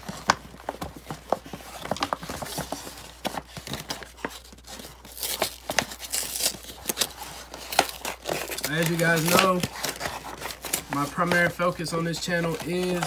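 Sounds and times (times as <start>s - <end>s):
mailing envelope crinkling: 0.0s - 13.0s.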